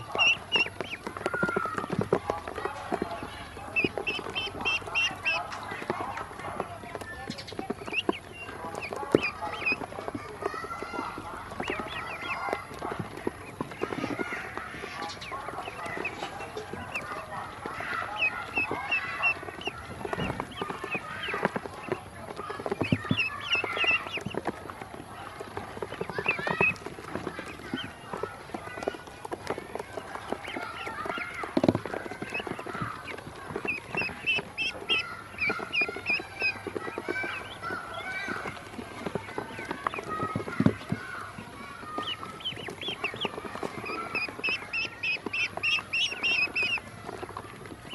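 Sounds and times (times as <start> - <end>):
ducklings peeping: 0.0 - 47.9
bills tapping on plastic: 0.2 - 46.2.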